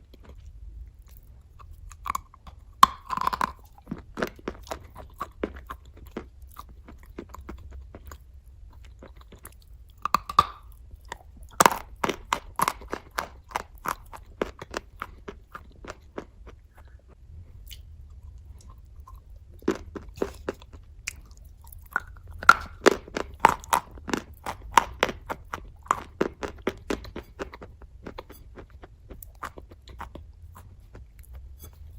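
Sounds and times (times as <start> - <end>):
crunching and chewing chalk: 0.0 - 31.9.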